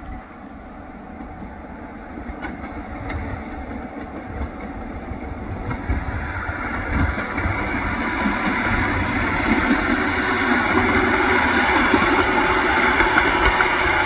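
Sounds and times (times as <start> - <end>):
diesel train engines: 0.0 - 14.0
train wheels on rails: 0.0 - 14.0.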